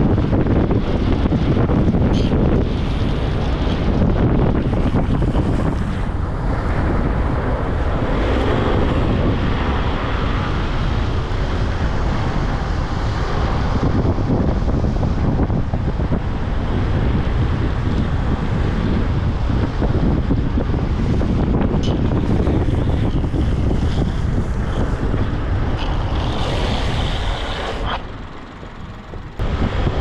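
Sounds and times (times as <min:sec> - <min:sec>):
wheels rolling on asphalt: 0:00.0 - 0:30.0
wind buffeting microphone: 0:00.0 - 0:30.0.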